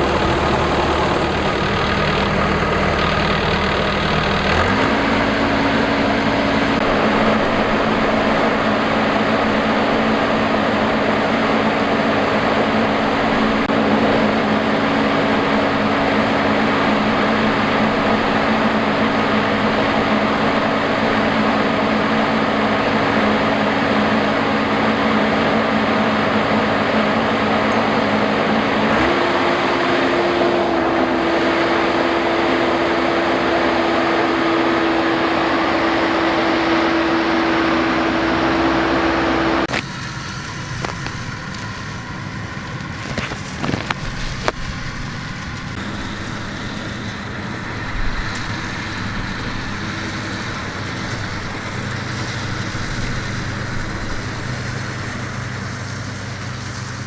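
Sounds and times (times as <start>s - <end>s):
combine harvester engine: 0.0s - 57.0s
steady mechanical noise: 0.0s - 57.0s.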